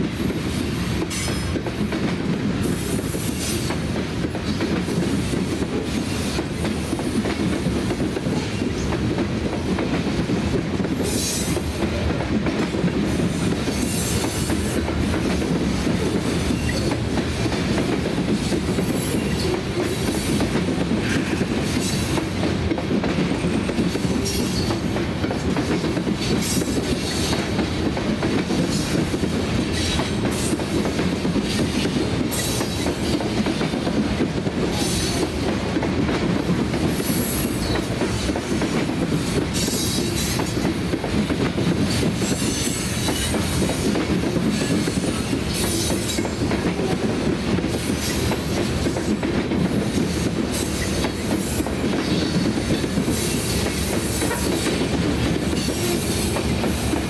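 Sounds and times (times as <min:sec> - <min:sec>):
freight train wheels rumbling: 0:00.0 - 0:57.0
wheels clacking over rail joints: 0:01.0 - 0:57.0.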